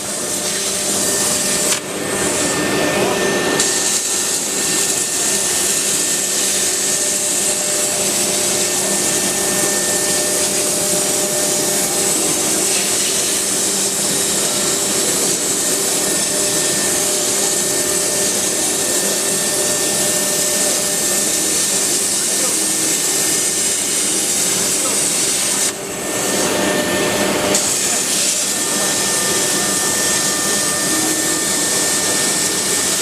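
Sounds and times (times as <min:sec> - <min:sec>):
glass cutting machine hissing: 0:00.0 - 0:33.0.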